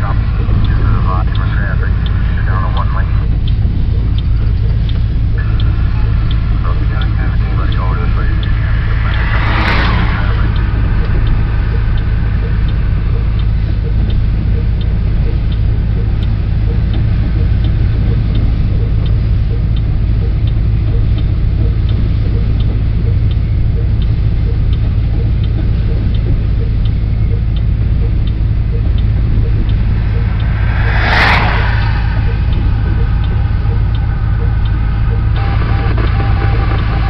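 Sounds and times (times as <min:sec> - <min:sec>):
freight train rumbling: 0:00.0 - 0:37.0.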